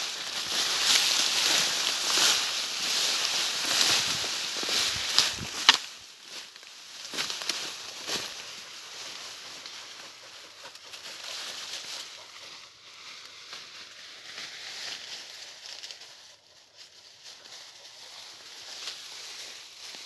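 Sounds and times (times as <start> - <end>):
leaves and brush rustling: 0.0 - 20.0
twigs crackling underfoot: 0.0 - 20.0.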